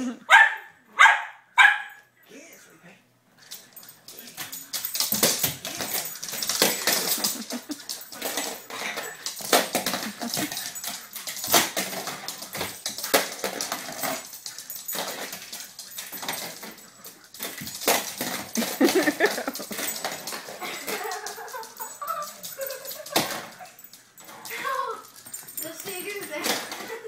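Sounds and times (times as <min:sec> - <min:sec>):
toy car clattering on floor: 0:03.4 - 0:27.0.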